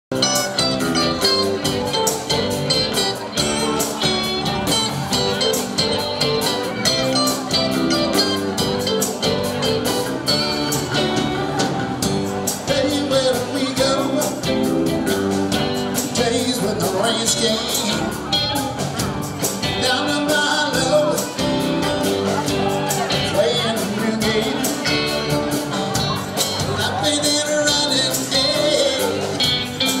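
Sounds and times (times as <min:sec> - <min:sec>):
rock song with steady beat: 0:00.1 - 0:30.0.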